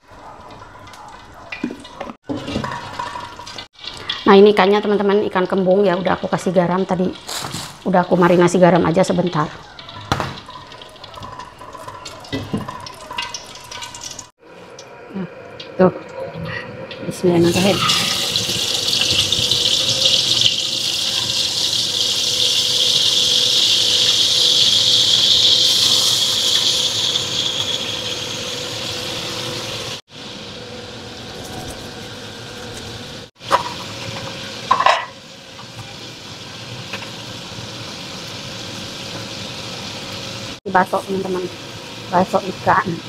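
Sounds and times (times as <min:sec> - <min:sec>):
fish sizzling in hot oil: 0:02.3 - 0:14.4, 0:17.4 - 0:43.0.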